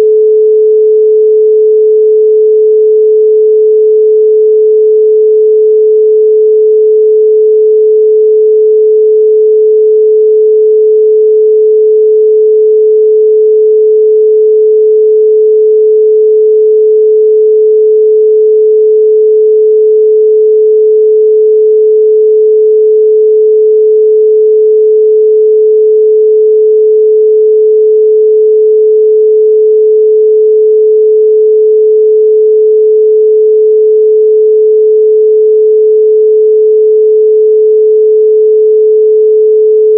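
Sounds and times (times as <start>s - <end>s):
pure sine tone: 0.0s - 39.9s.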